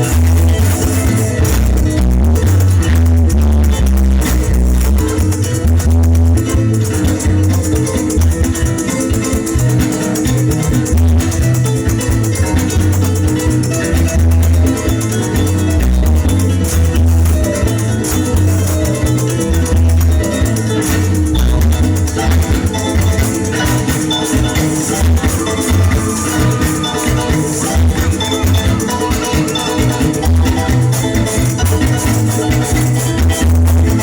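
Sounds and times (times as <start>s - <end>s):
heavy bass line: 0.0s - 34.0s
maracas shaking: 0.0s - 34.0s
plucked harp: 0.0s - 34.0s.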